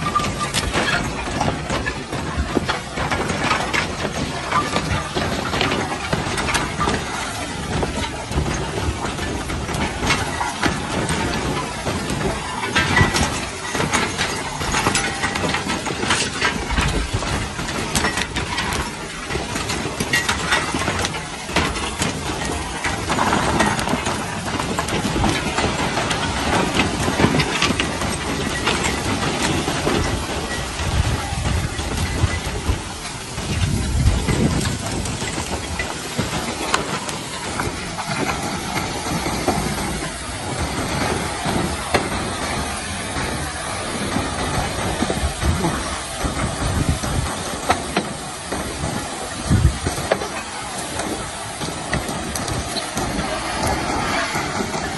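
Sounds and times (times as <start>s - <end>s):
lava crust crackling: 0.0s - 54.9s
lava rumble and hiss: 0.0s - 54.9s.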